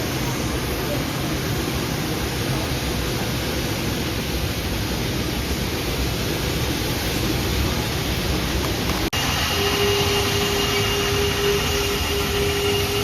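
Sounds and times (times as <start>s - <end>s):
train car rushing rumble: 0.0s - 13.0s.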